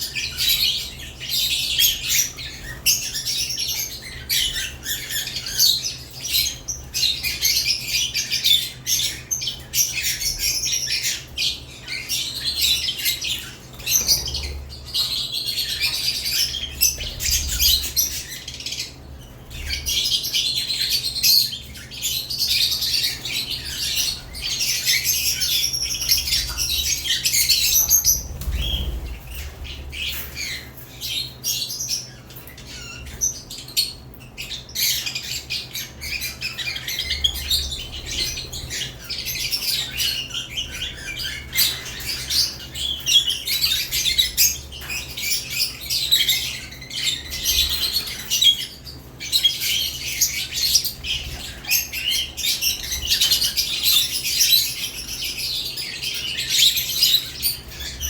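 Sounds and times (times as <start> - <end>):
lovebirds chattering and squawking: 0.0 - 58.0.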